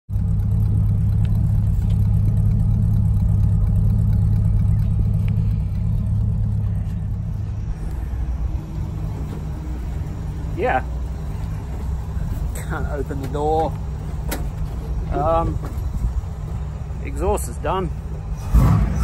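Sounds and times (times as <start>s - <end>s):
car engine idling: 0.1s - 19.0s.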